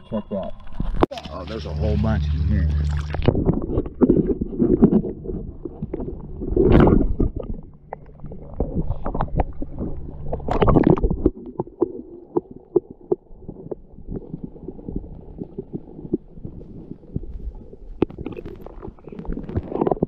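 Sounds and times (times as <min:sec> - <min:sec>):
underwater rumble of moving water: 0:00.0 - 0:20.0
small underwater clicks and knocks: 0:00.5 - 0:01.3, 0:02.9 - 0:20.0.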